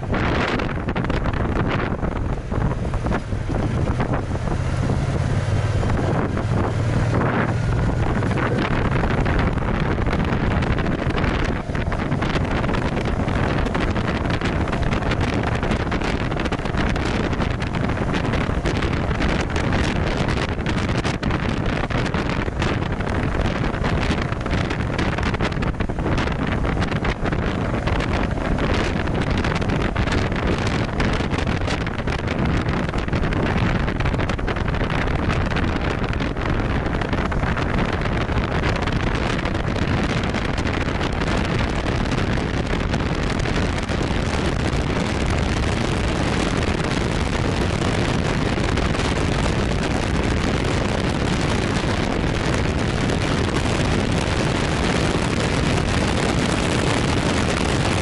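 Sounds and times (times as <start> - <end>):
road noise: 0.0 - 58.0
scooter engine running: 0.0 - 58.0
wind noise on microphone: 0.0 - 58.0.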